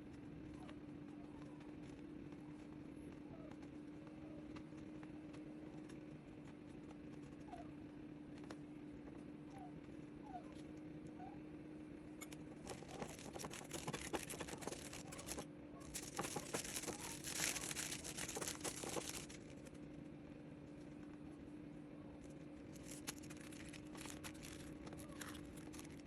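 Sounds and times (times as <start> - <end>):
crackly rustling with clicks: 0.0 - 26.0
steady low hum: 0.0 - 26.0.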